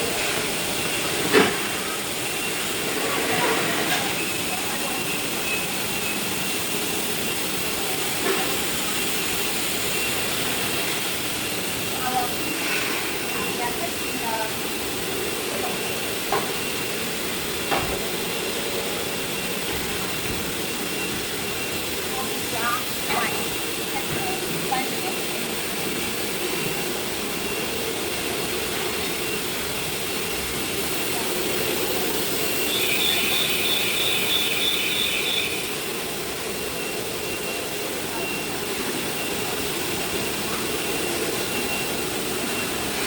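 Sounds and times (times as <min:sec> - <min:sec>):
faint high whine: 0:00.0 - 0:43.0
machinery running hiss: 0:00.0 - 0:43.0
high-pitched pulsing squeal: 0:01.7 - 0:43.0.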